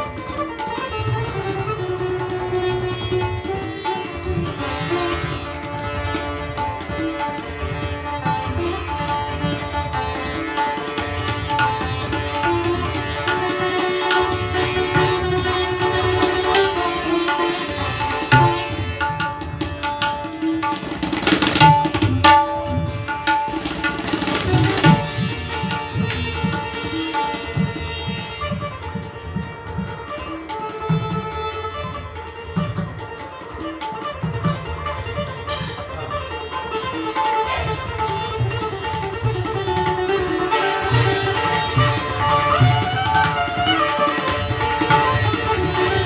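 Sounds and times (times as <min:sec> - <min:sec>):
sitar playing fast: 0:00.0 - 0:46.0.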